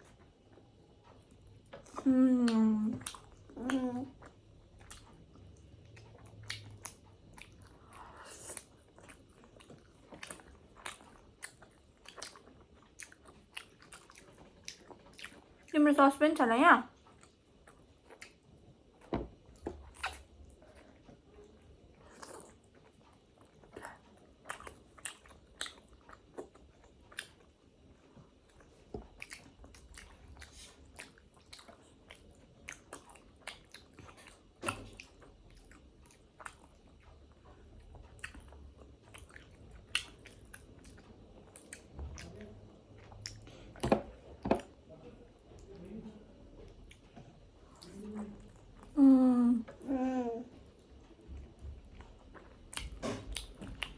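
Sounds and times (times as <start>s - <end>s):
wet chewing and smacking: 0.0s - 15.8s, 16.9s - 49.0s, 50.6s - 53.9s.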